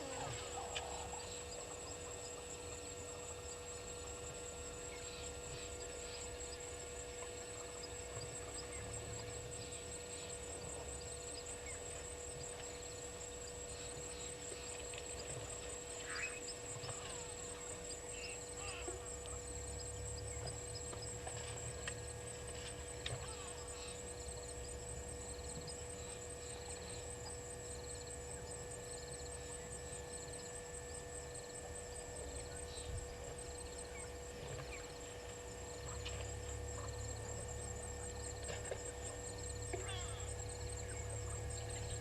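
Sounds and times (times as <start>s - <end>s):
faint chirps: 0.0s - 42.0s
high-pitched insect chirr: 0.0s - 42.0s
low hum and rumble: 0.0s - 42.0s.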